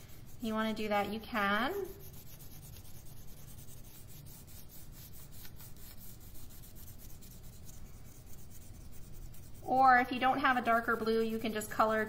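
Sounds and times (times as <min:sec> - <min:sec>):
colored pencil scratching on paper: 0:00.0 - 0:12.0.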